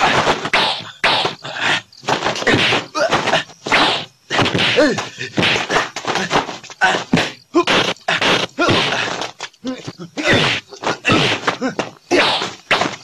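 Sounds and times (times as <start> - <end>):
fighters shouting and grunting: 0.0 - 13.0.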